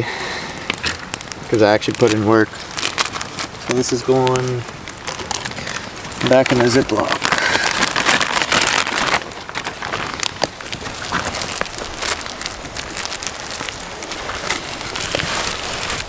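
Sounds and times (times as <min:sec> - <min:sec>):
plastic bag crinkling: 0:00.0 - 0:16.0
soft crackles and ticks: 0:00.0 - 0:16.0.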